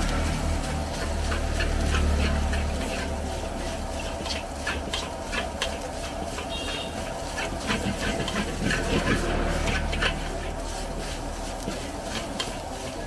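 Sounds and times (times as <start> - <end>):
frying sizzle: 0.0 - 13.0
gas burner low rumble: 0.0 - 13.0
metal spatula scraping wok: 0.0 - 13.0.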